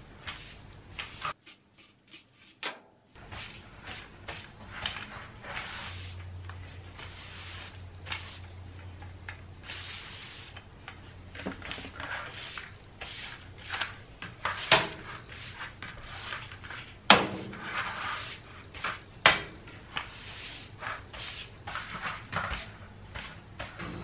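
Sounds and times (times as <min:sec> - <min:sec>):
broom sweeping hard floor: 0:00.0 - 0:24.0.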